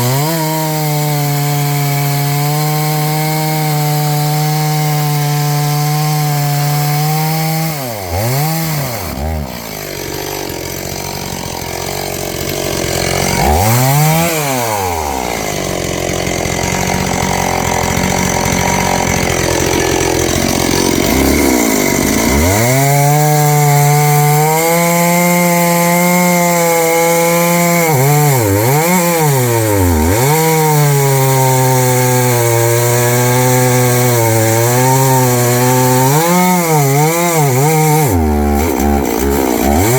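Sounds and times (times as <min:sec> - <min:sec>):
chainsaw cutting into wood: 0:00.0 - 0:39.9
chainsaw running: 0:00.0 - 0:39.9.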